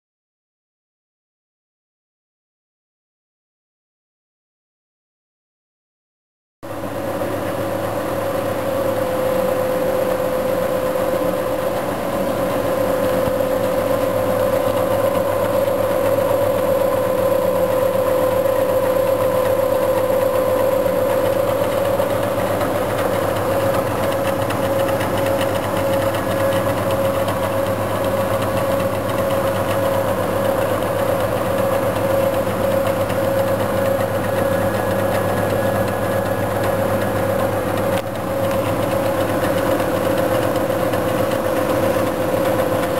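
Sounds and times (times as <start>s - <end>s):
mid-pitched machine whine: 6.6s - 42.9s
machine mechanical hum: 6.7s - 42.9s.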